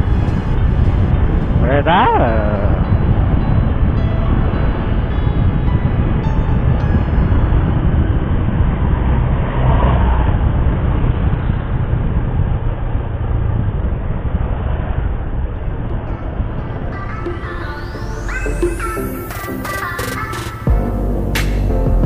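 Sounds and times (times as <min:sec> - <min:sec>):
low rumble of road noise: 0:00.0 - 0:22.0.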